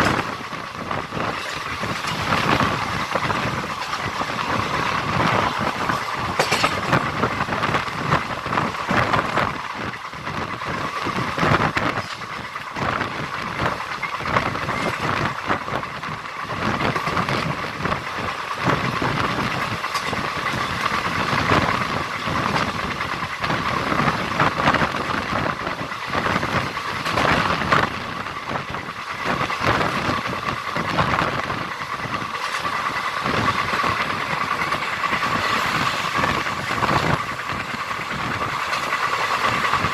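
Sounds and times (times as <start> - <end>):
clacks over rail joints: 0.0 - 39.9
train wheels rumbling: 0.0 - 39.9.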